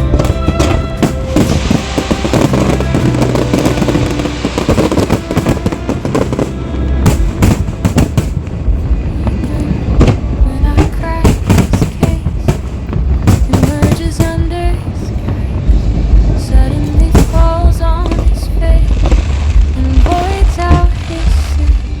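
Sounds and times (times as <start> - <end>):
background music: 0.0 - 22.0
fireworks crackling and banging: 0.0 - 22.0.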